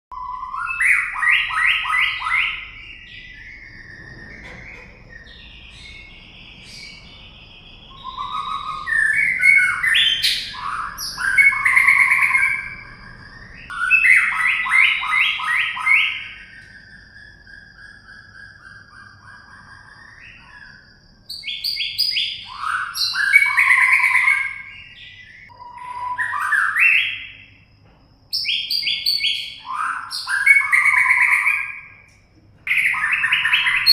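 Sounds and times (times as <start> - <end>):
bird singing whistles: 0.1 - 27.7, 28.3 - 33.9.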